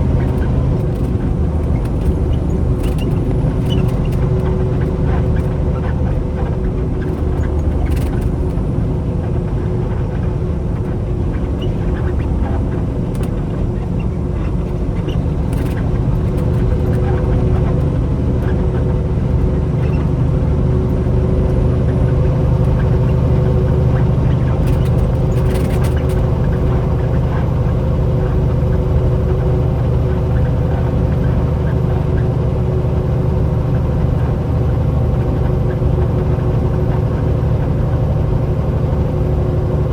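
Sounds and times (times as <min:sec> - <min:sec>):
road noise: 0:00.0 - 0:39.9
truck engine droning: 0:00.0 - 0:39.9.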